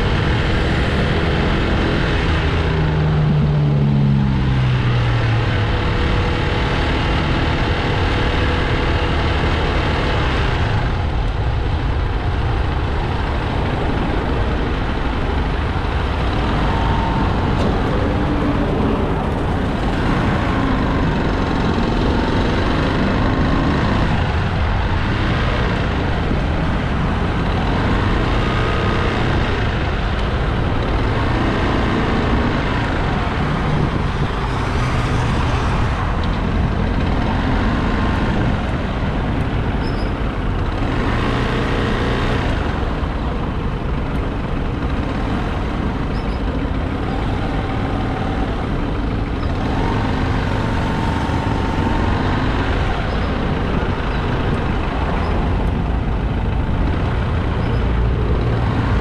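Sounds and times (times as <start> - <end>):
motorcycle engine running: 0.0 - 59.0
truck and car rumble: 0.0 - 59.0.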